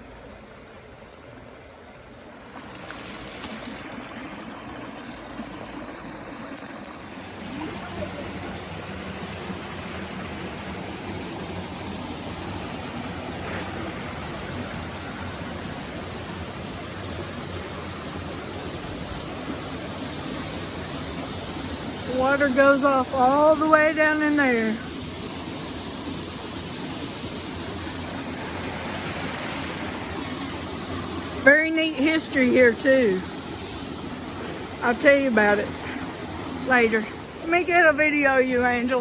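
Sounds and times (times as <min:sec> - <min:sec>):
creek water over rocks: 0:00.0 - 0:39.0.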